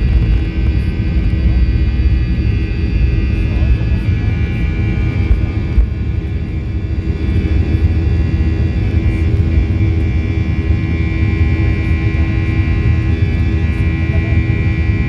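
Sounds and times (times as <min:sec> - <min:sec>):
high fan whine: 0:00.0 - 0:15.0
jet engine roar: 0:00.0 - 0:15.0.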